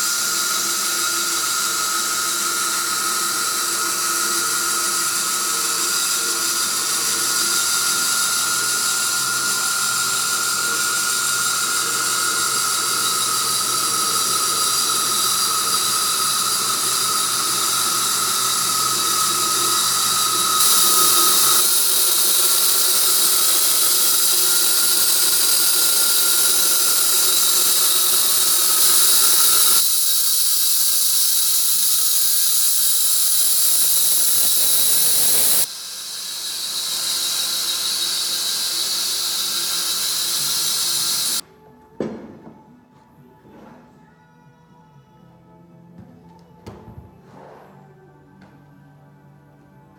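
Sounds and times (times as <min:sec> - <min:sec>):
sawmill blade whine: 0:00.0 - 0:41.4.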